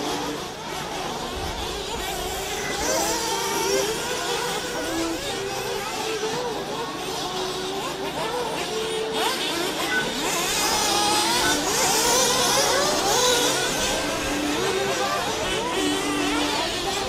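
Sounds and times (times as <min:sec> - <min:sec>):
rc car engines revving: 0:00.0 - 0:17.0.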